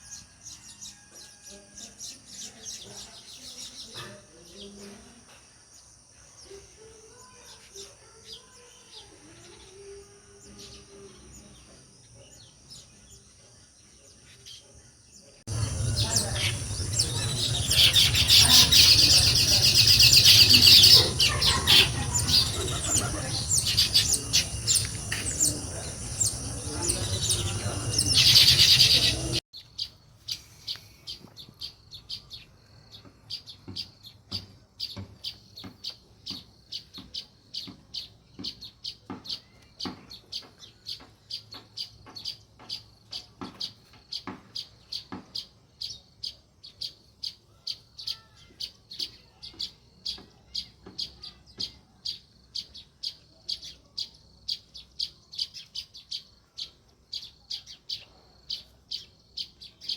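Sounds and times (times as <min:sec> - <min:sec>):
sparrow chirping: 0:06.4 - 0:59.9.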